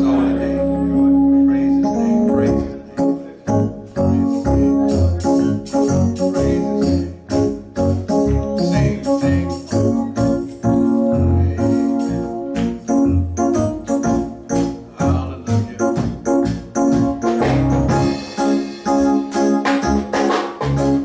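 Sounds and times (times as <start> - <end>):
organ playing held chords: 0.0 - 21.0
drum kit steady beat: 3.8 - 21.0.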